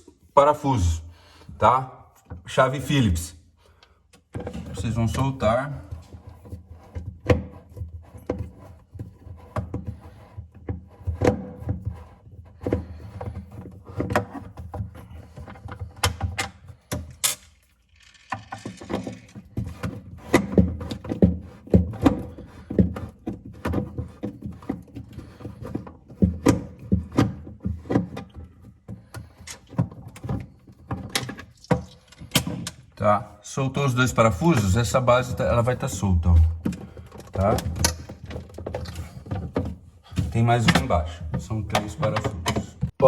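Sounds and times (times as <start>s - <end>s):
plastic parts clicking and knocking: 3.7s - 33.0s, 34.2s - 43.0s.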